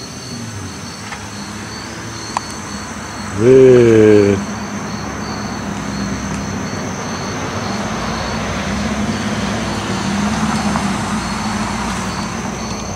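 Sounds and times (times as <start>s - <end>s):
insects chirping: 0.0s - 12.9s
low engine hum: 0.0s - 12.9s
road traffic noise: 0.0s - 12.9s.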